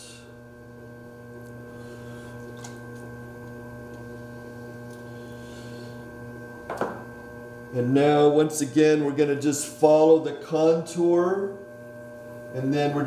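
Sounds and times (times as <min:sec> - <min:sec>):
potter's wheel motor humming: 0:00.0 - 0:13.0.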